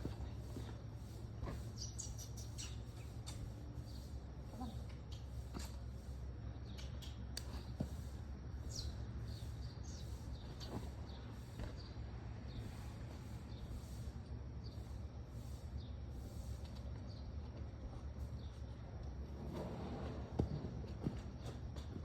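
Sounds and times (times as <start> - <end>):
small birds chirping: 0.0 - 19.1.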